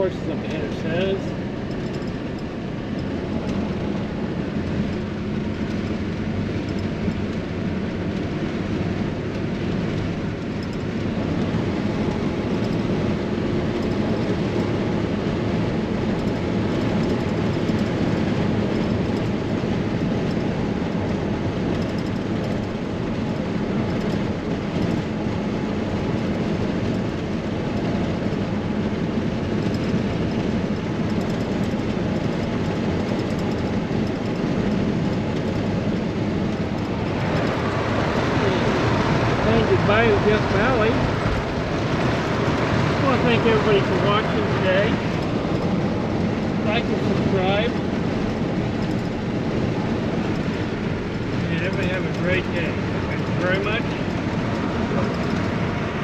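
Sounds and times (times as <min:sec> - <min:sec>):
car engine hum: 0:00.0 - 0:56.0
tyre and wind road noise: 0:00.0 - 0:56.0.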